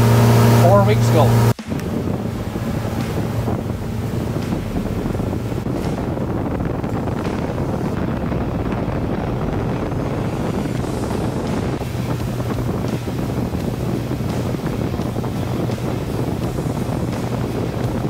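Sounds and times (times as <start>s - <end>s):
outboard motor drone: 0.0s - 18.0s
water rushing: 0.0s - 18.0s
wind buffeting microphone: 0.0s - 18.0s.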